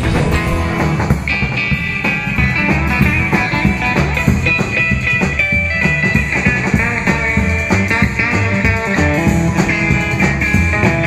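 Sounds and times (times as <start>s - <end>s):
rockabilly band music: 0.0s - 11.0s.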